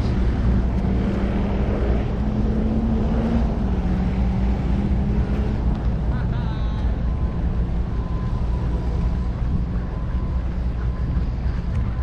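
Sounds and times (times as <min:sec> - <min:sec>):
engine running: 0:00.0 - 0:12.0
wind rumble on microphone: 0:00.0 - 0:12.0.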